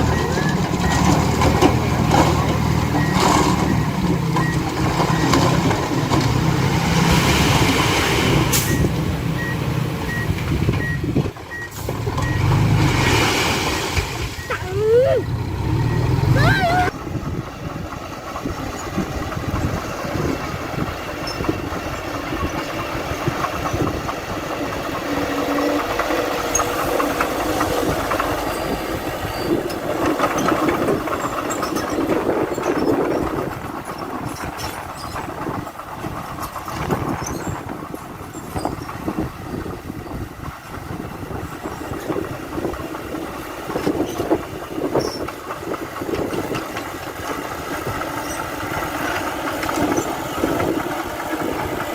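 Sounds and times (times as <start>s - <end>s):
heavy machinery diesel engines: 0.0s - 51.9s.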